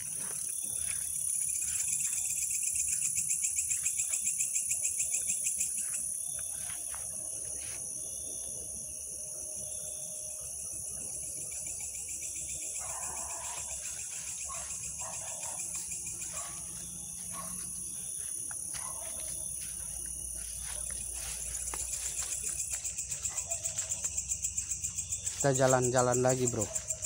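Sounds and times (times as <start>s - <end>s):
crickets trilling: 0.0s - 27.0s
fast pulsing insect chirp: 0.0s - 27.0s.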